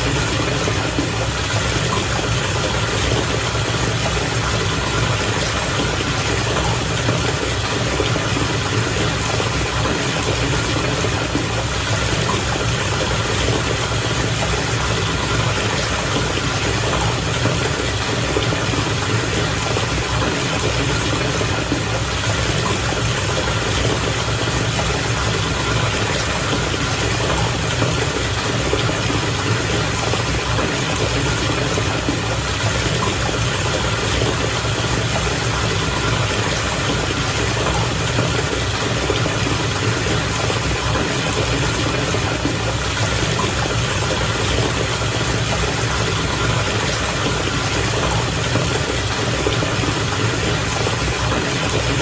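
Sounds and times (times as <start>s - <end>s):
bath water bubbling and churning: 0.0s - 52.0s.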